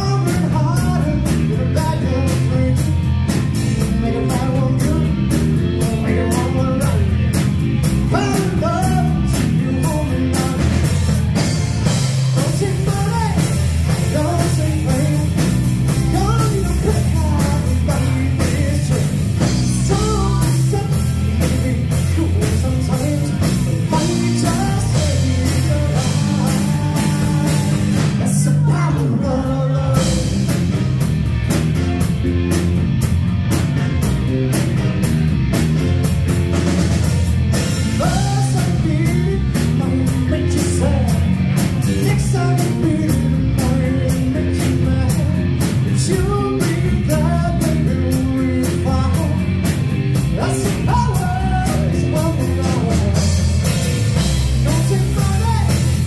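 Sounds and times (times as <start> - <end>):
man singing: 0.0 - 11.2, 11.8 - 30.6, 37.9 - 56.0
bass guitar: 0.0 - 56.0
drums: 0.0 - 56.0
electric guitar: 0.0 - 56.0.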